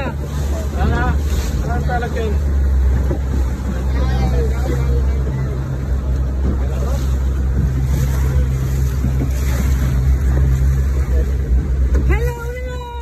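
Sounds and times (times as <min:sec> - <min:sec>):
boat motor humming: 0:00.0 - 0:13.0
water rushing against hull: 0:00.0 - 0:13.0.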